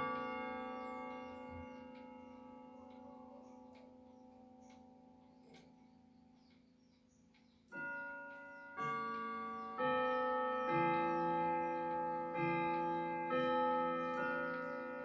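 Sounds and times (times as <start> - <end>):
clock chime melody on gong rods: 0.0 - 5.8, 7.5 - 15.0.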